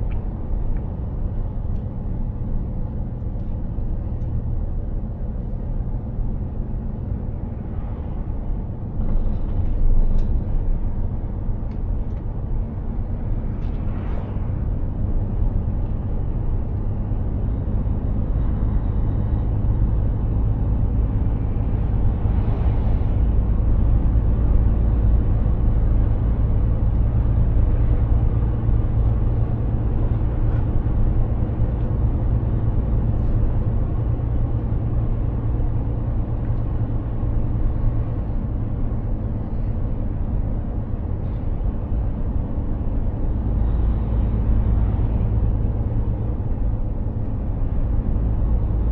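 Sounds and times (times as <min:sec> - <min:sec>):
truck diesel engine drone: 0:00.0 - 0:48.9
tyre and road noise: 0:00.0 - 0:48.9.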